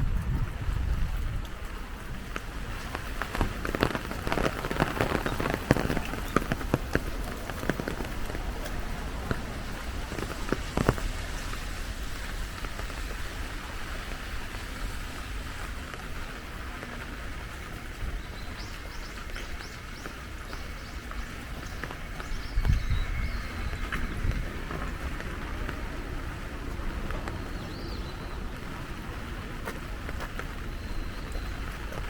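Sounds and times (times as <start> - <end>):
heavy rain falling: 0.0 - 32.0
loud close raindrop strikes: 0.0 - 32.0.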